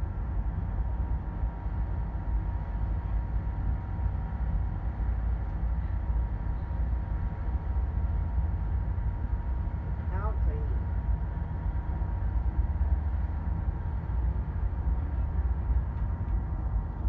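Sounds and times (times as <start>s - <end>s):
faint steady hum: 0.0s - 17.0s
train car rumbling on tracks: 0.0s - 17.0s.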